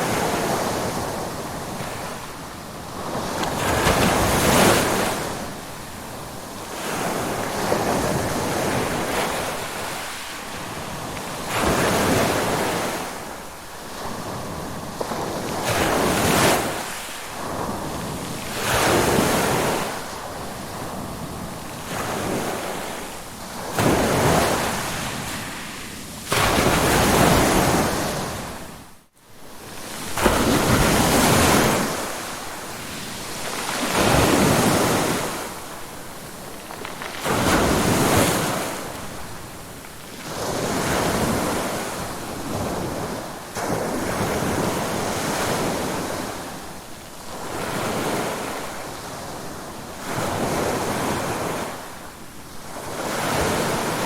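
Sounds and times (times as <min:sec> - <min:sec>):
ocean waves breaking: 0:00.0 - 0:28.9, 0:29.7 - 0:51.9.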